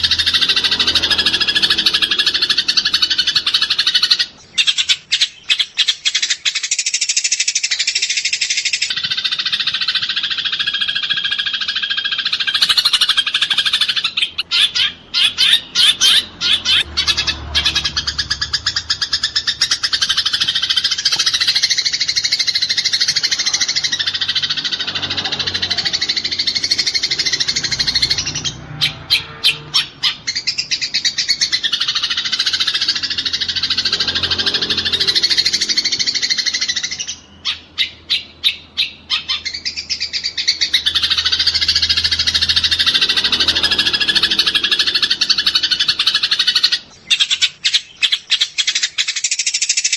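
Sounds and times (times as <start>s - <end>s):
sparrows chattering: 0.0s - 49.9s.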